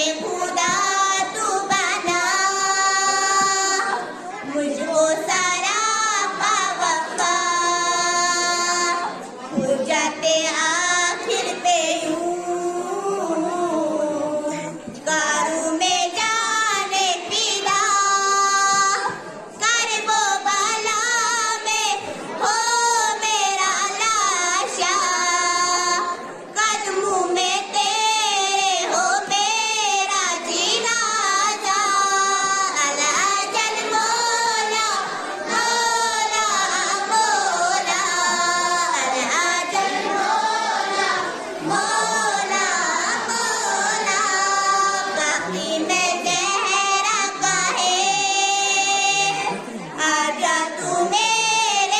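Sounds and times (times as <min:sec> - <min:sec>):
girls singing a hymn: 0:00.0 - 0:51.9.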